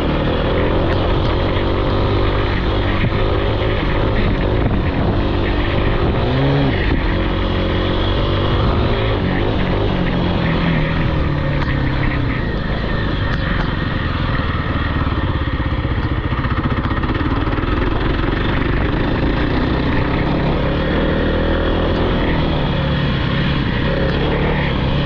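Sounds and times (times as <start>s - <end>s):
off-road vehicle engine droning: 0.0s - 25.0s.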